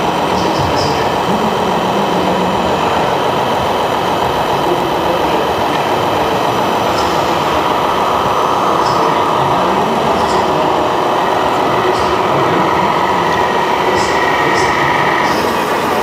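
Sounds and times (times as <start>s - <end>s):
constant high whine: 0.0s - 16.0s
model truck crane mechanical drone: 0.0s - 16.0s.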